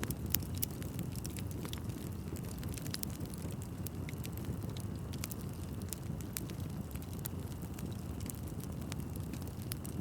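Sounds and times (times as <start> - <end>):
fire crackling and popping: 0.0 - 10.0
low rush of flames: 0.0 - 10.0.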